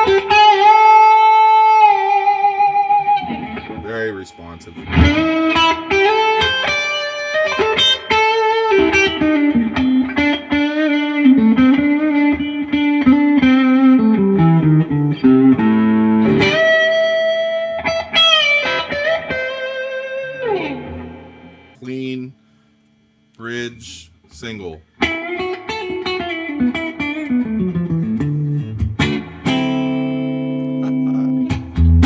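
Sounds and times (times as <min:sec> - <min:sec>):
clean electric guitar lead: 0:00.0 - 0:22.4, 0:25.0 - 0:32.0.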